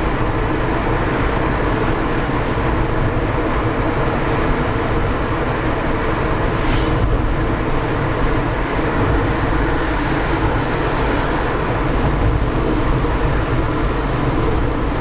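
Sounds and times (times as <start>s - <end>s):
car engine and tyre road noise: 0.0s - 15.0s.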